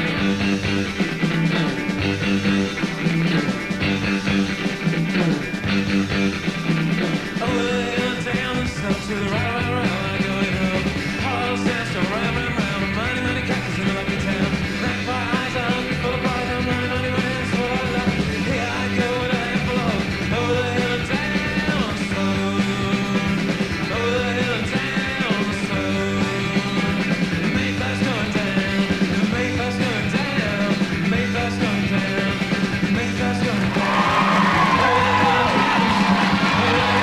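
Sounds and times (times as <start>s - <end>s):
psychedelic rock band playing: 0.0s - 37.0s.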